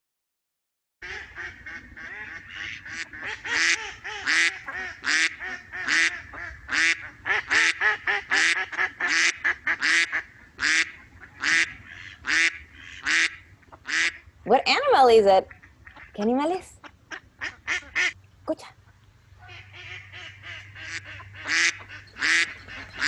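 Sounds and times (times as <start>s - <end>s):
ducks quacking: 1.0s - 18.2s, 18.8s - 23.0s.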